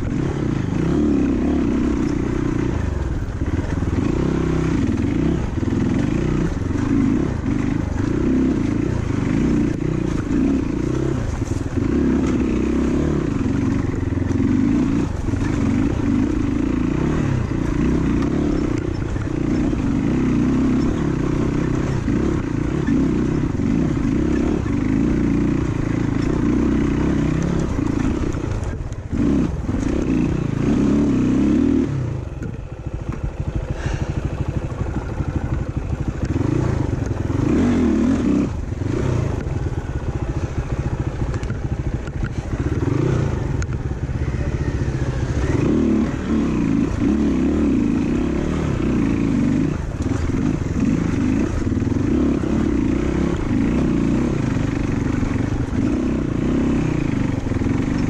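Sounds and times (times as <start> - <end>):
dirt bike engine revving: 0.0 - 32.3, 33.2 - 58.0.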